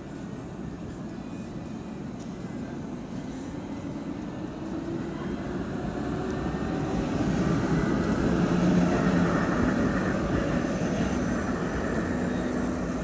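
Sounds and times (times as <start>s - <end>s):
low tram hum: 0.0s - 13.0s
tram wheels rumbling on rails: 0.1s - 13.0s.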